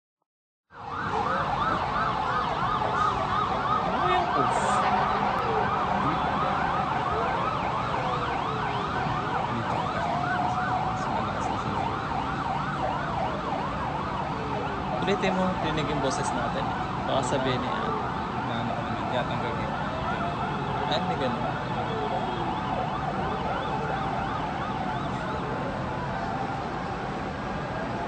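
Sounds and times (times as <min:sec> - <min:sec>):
fast yelping sirens: 0:00.7 - 0:28.0
rising and falling siren wails: 0:00.7 - 0:28.0.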